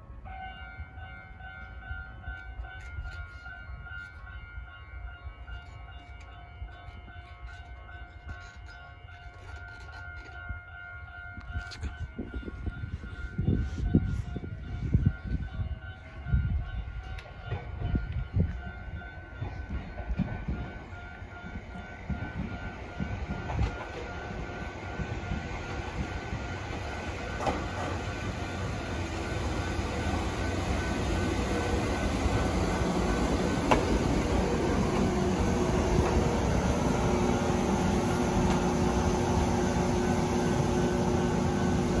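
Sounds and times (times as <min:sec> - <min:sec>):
train humming: 0:00.0 - 0:42.0
electric train running noise: 0:01.6 - 0:42.0.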